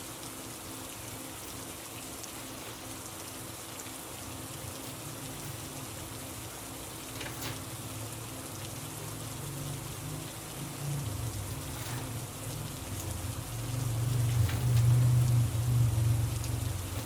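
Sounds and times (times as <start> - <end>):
steady rain hissing: 0.0 - 17.0.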